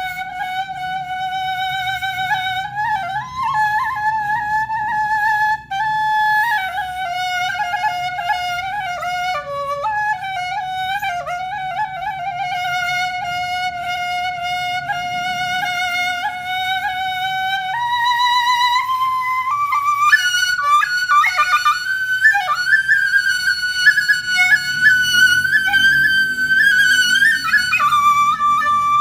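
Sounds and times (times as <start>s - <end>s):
flute melody: 0.0s - 29.0s.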